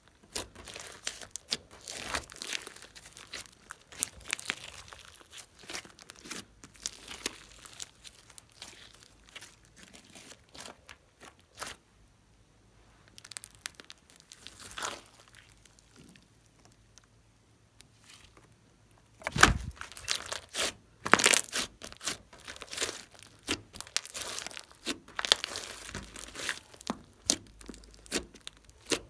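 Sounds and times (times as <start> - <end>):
slime crackling and popping: 0.0 - 11.8, 13.1 - 17.2, 19.2 - 29.0
hands squishing slime: 0.2 - 11.8, 13.1 - 17.0, 19.2 - 29.0.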